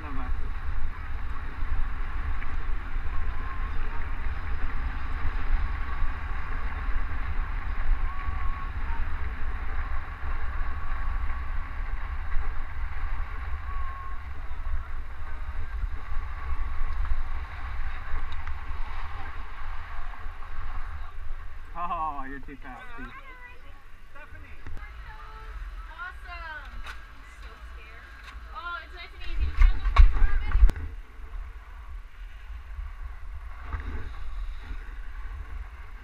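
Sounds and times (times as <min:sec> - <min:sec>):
wind rumble on microphone: 0:00.0 - 0:27.1, 0:28.6 - 0:36.0.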